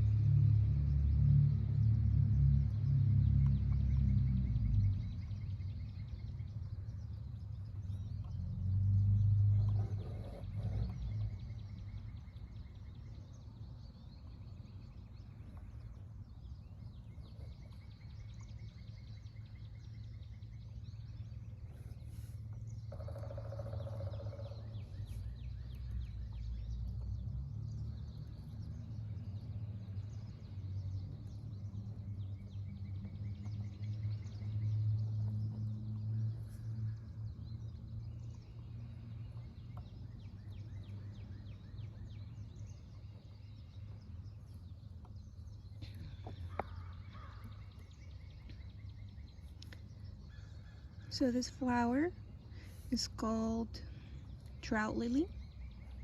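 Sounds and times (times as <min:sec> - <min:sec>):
birds chirping and trilling: 0:00.0 - 0:56.0
low hum: 0:00.0 - 0:56.0.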